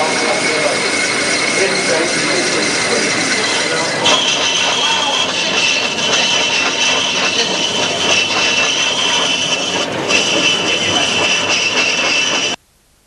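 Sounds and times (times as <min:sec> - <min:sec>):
lathe tool cutting spinning wood: 0:00.0 - 0:12.6.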